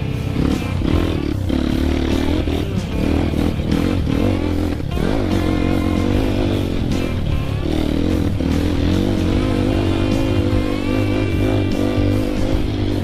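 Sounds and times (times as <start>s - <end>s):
background music: 0.0s - 13.0s
dirt bike engine revving: 0.0s - 13.0s.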